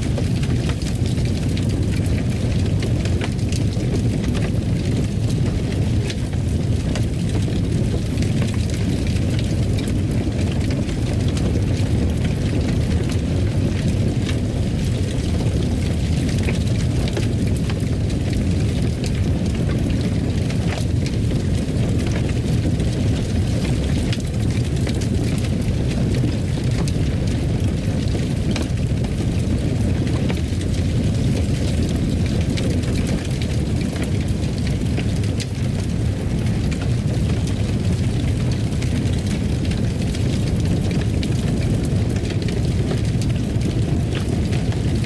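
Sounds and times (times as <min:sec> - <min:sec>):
fire crackling in fireplace: 0:00.0 - 0:45.0.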